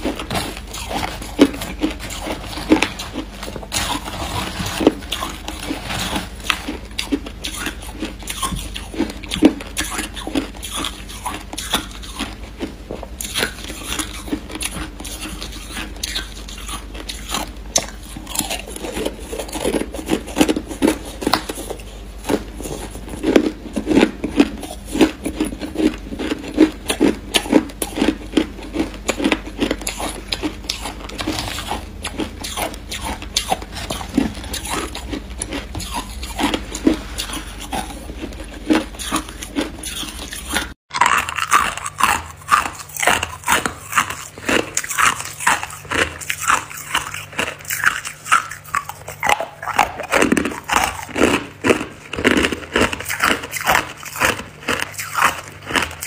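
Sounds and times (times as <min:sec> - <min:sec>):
crushed ice being chewed: 0:00.0 - 0:56.0.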